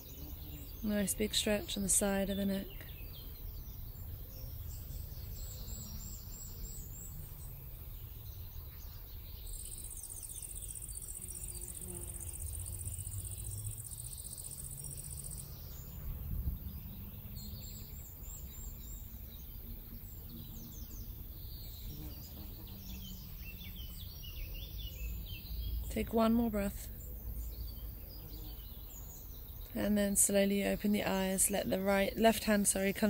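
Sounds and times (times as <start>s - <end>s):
bird chirps: 0.0s - 33.0s
insect buzzing: 0.0s - 33.0s.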